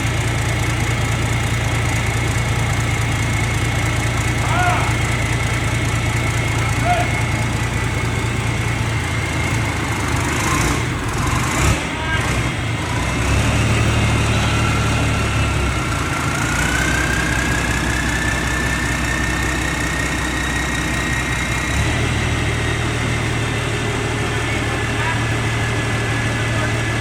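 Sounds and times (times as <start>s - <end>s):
harvester engine running: 0.0s - 27.0s.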